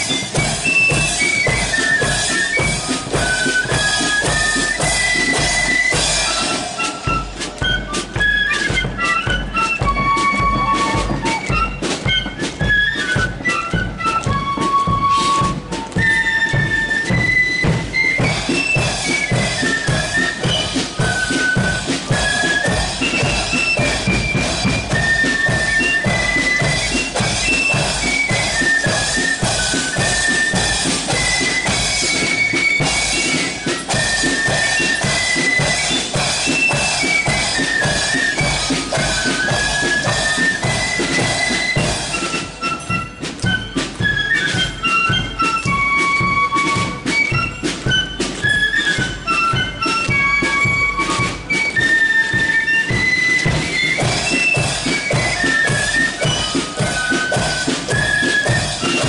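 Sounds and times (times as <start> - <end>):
bass and snare drums: 0.0 - 59.0
shrill unison flute melody: 0.0 - 59.0.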